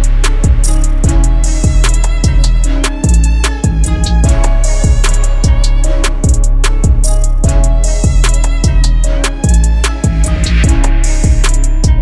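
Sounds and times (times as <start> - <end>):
deep kick drums: 0.0 - 12.0
hi-hat ticks: 0.0 - 12.0.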